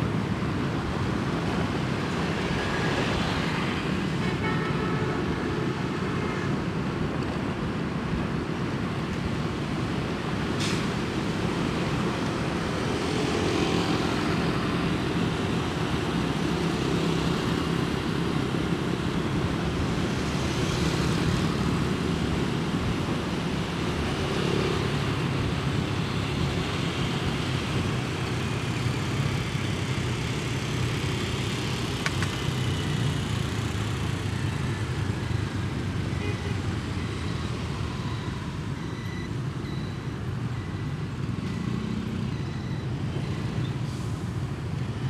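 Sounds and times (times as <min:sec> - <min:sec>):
passing traffic: 0:00.0 - 0:45.0
road noise rushing: 0:00.0 - 0:45.0.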